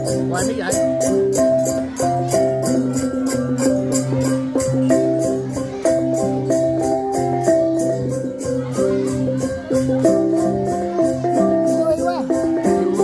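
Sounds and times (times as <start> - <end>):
steady high beat: 0.0 - 13.0.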